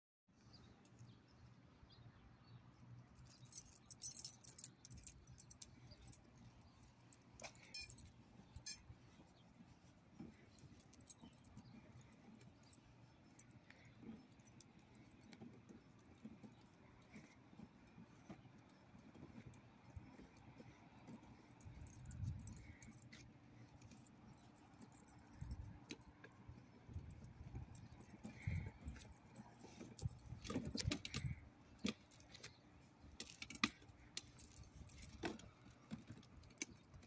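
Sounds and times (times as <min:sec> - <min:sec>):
light metallic jingling: 0:00.5 - 0:37.0.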